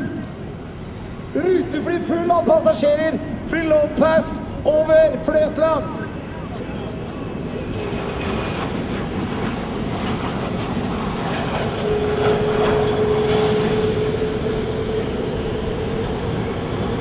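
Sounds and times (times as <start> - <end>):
jet airliner engine rush: 0.0 - 17.0.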